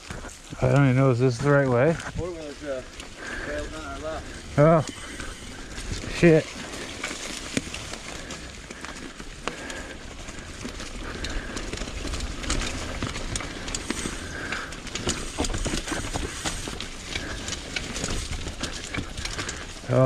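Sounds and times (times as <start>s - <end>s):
bike rattling: 0.0s - 20.0s
tyres crunching on rocks: 0.0s - 20.0s.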